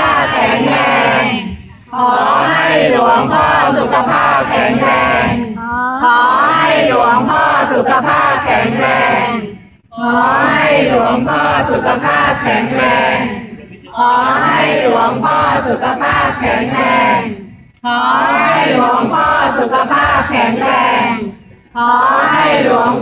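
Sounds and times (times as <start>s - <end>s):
crowd chanting in unison: 0.0s - 23.0s.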